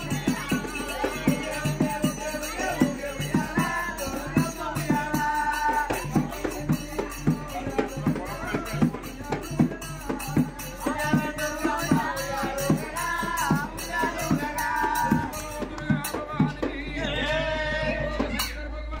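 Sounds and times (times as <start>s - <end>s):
hand drum beat: 0.0s - 18.6s
jingling percussion: 0.0s - 19.0s
man singing into microphone: 0.0s - 19.0s.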